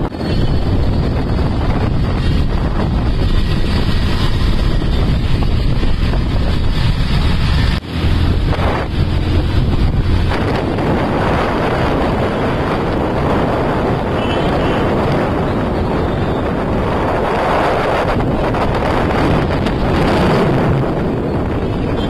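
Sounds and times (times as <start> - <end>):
motorbike engines rumbling: 0.0 - 22.0
wind buffeting microphone: 0.0 - 22.0.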